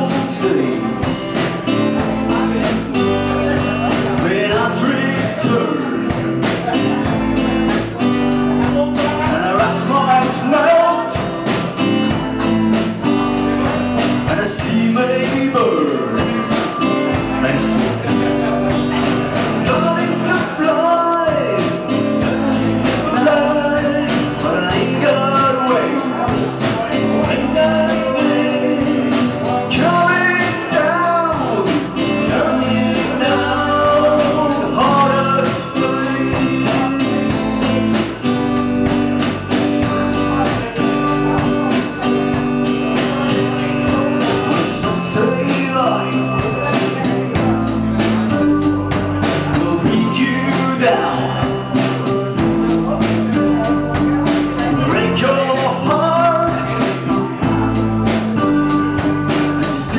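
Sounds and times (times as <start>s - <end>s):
drum kit: 0.0s - 59.9s
man singing: 0.0s - 59.9s
strummed acoustic guitar: 0.0s - 59.9s.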